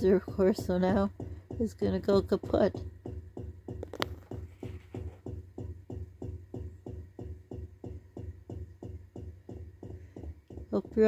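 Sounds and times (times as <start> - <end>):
refrigerator rapid pulsing: 0.0 - 11.0.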